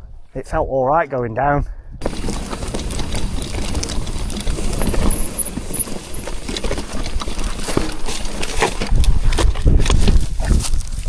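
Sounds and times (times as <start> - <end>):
bike rattling and knocking: 2.0 - 11.0
bike tyres crunching on stones: 2.0 - 11.0.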